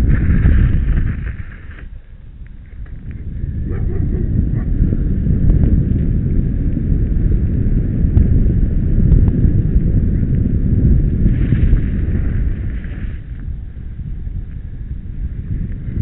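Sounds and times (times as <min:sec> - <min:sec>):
bike rolling on asphalt: 0:00.0 - 0:16.0
wind buffeting microphone: 0:00.0 - 0:16.0.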